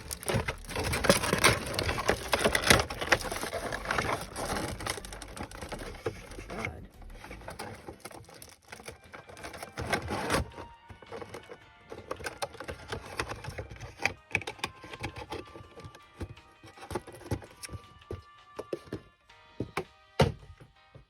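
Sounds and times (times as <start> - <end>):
plastic and cardboard packaging crinkling: 0.0 - 19.0.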